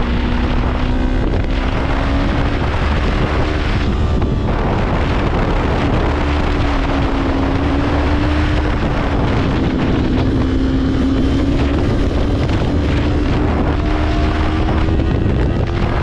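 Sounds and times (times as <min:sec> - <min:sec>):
motorcycle engine at high revs: 0:00.0 - 0:16.0
wind buffeting microphone: 0:00.0 - 0:16.0.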